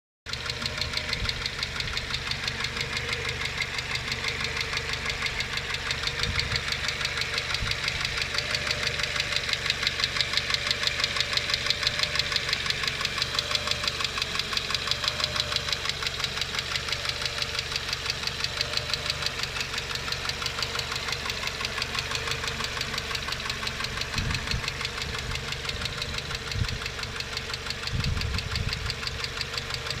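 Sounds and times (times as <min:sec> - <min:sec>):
engine lifters ticking: 0:00.3 - 0:30.0
petrol engine running: 0:00.3 - 0:30.0.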